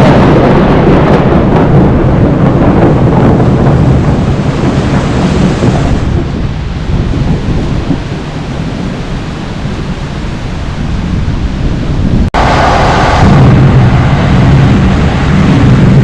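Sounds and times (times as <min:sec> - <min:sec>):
heavy rain: 0:00.0 - 0:16.0
thunder rumbling: 0:00.0 - 0:16.0.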